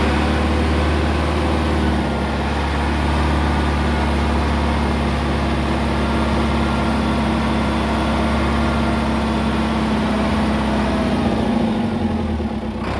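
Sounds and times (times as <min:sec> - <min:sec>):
tractor engine running steadily: 0:00.0 - 0:12.9.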